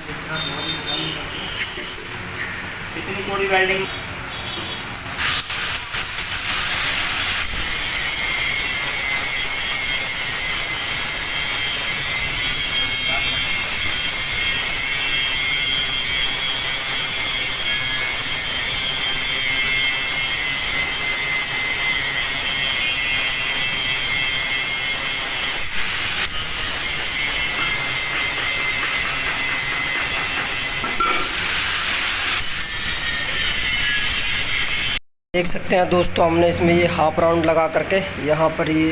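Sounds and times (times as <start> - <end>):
angle grinder grinding steel: 1.4 - 2.2, 4.6 - 35.0.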